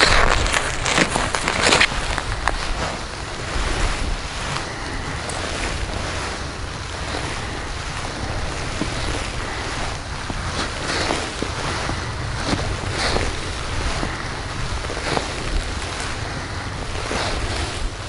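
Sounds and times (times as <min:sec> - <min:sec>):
footsteps crunching snow: 0:00.0 - 0:18.0
wind buffeting microphone: 0:00.0 - 0:18.0.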